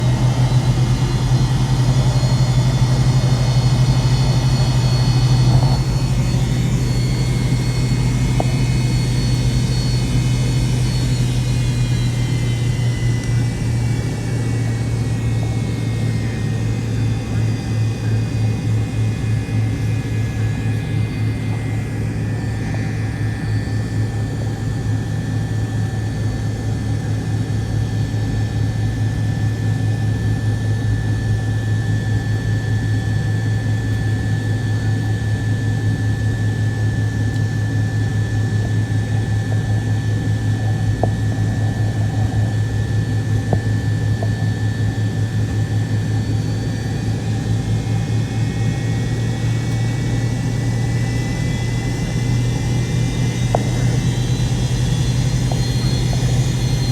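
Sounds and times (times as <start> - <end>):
jet engine drone in cabin: 0.0 - 56.9
thin steady whines: 0.0 - 56.9.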